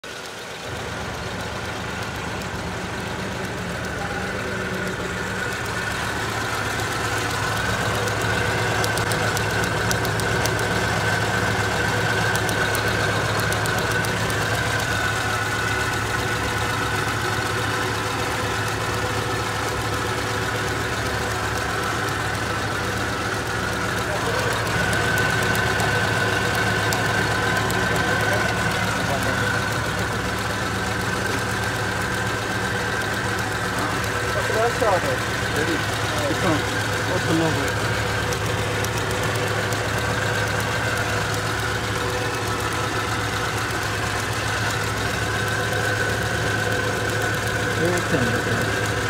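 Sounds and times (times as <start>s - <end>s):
car engine idling and misfiring: 0.0s - 49.0s.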